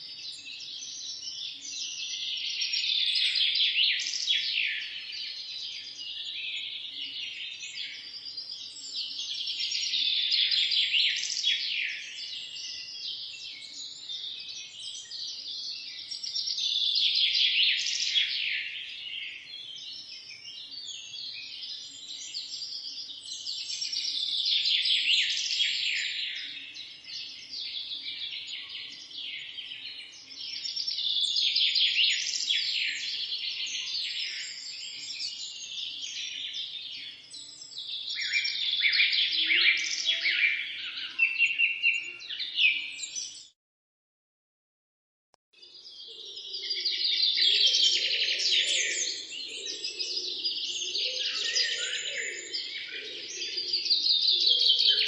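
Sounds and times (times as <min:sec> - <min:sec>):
small birds chirping chorus: 0:00.0 - 0:43.6, 0:45.6 - 0:55.0.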